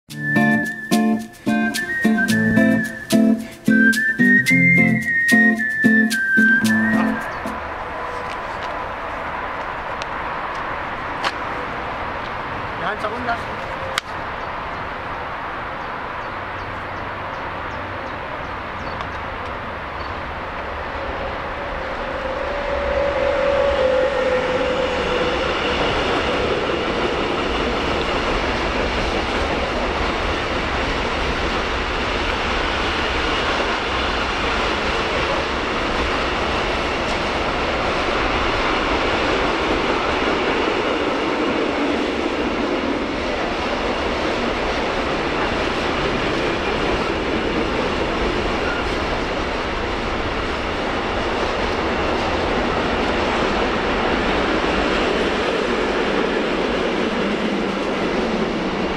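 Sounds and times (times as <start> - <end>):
freight train rolling past: 0.1 - 58.9
train whine: 0.1 - 58.9.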